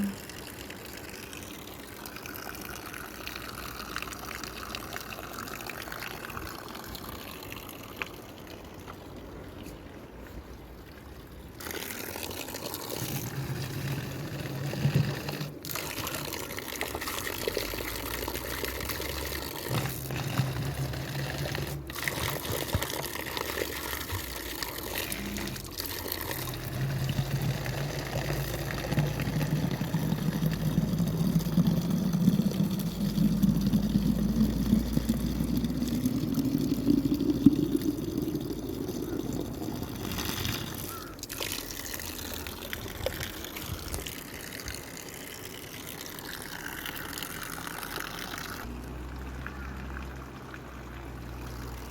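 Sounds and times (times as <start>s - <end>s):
running water trickling: 0.0s - 51.9s.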